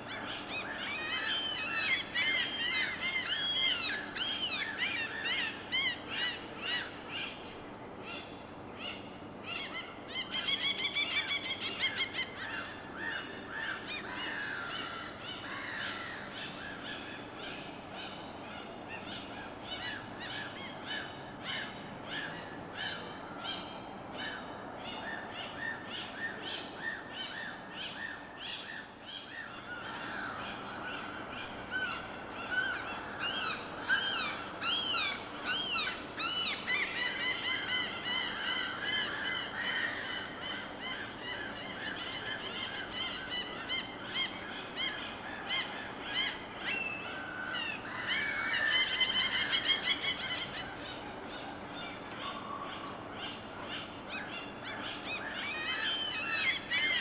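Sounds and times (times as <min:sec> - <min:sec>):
many birds calling: 0:00.0 - 0:07.4, 0:08.1 - 0:57.0
steady low hiss: 0:00.0 - 0:57.0.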